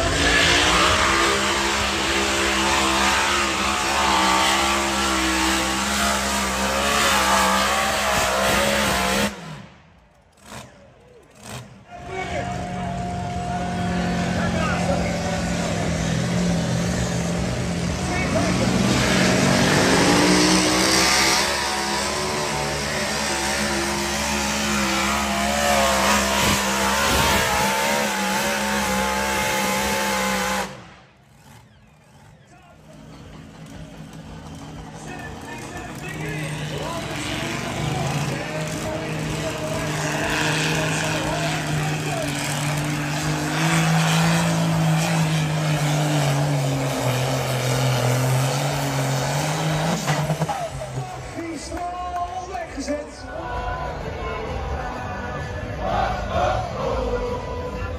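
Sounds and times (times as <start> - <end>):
tractor engine roaring: 0.0 - 57.9.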